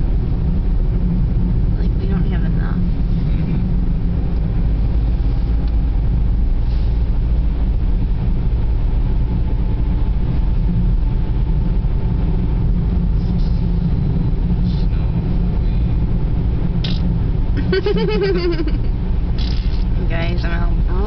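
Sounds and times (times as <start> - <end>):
car engine and tyres droning: 0.0 - 21.0.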